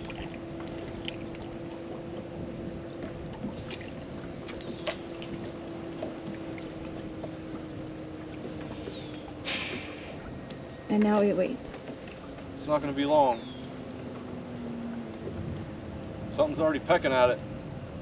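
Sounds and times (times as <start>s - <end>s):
low hum: 0.0s - 18.0s
water lapping around boat: 0.0s - 18.0s.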